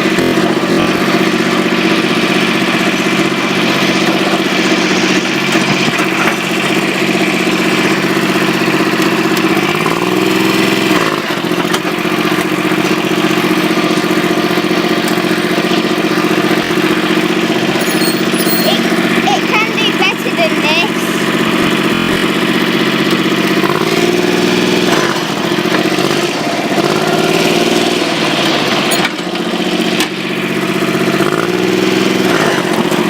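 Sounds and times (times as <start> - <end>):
tractor engine idling and revving: 0.0 - 33.0.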